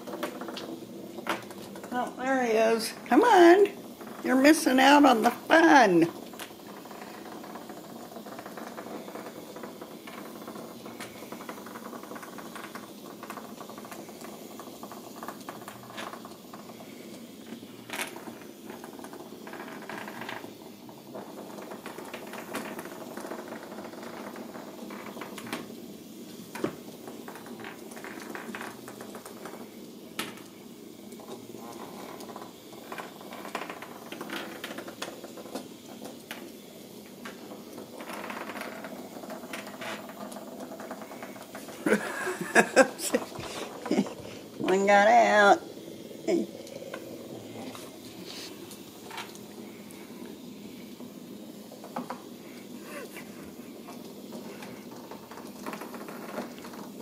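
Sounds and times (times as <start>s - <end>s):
balls rolling in plastic tracks: 0.0s - 57.0s.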